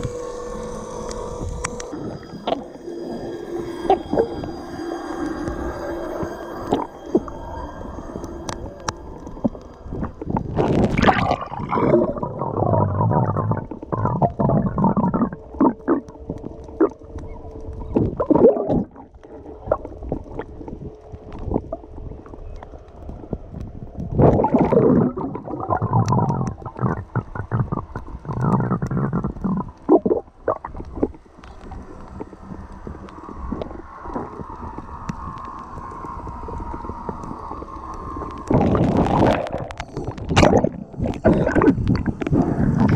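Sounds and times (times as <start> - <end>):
water gurgling and bubbling: 0.0 - 42.9.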